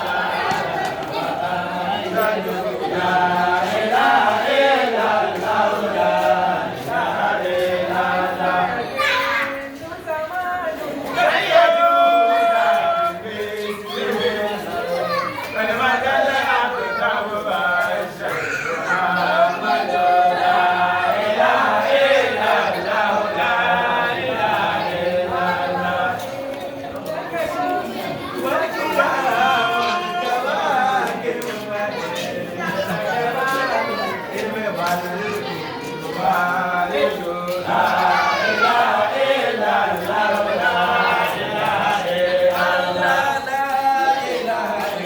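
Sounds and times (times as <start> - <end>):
voices chanting together: 0.0 - 45.0.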